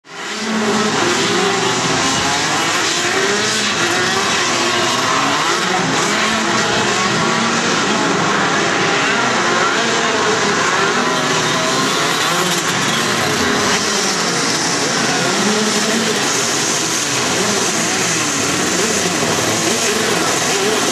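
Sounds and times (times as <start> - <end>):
racing kart engines: 0.0 - 20.9.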